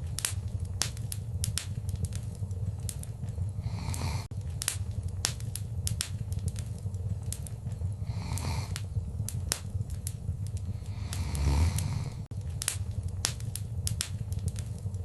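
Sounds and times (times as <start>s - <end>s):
low rumble of flames: 0.0s - 15.0s
sharp pops and snaps: 0.0s - 15.0s
wood fire crackling: 0.0s - 15.0s.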